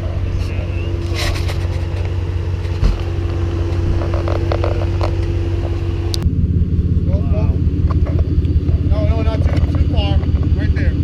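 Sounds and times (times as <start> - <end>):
vehicle engine droning with whine: 0.0 - 11.0.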